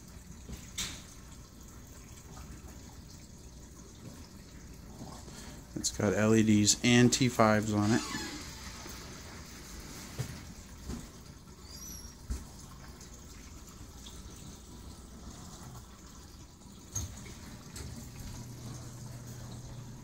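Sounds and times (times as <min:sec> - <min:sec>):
water trickling and splashing: 0:00.0 - 0:20.0.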